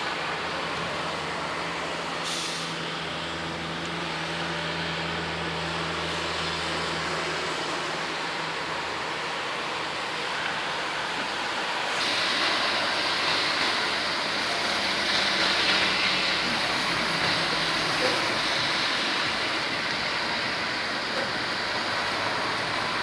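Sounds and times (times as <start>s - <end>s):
rain rushing hiss: 0.0s - 23.0s.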